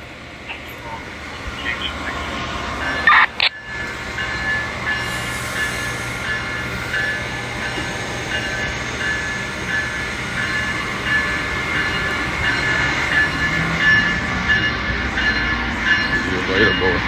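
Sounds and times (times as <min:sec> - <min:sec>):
train running noise: 0:00.0 - 0:17.0
ringing train bell: 0:00.4 - 0:17.0.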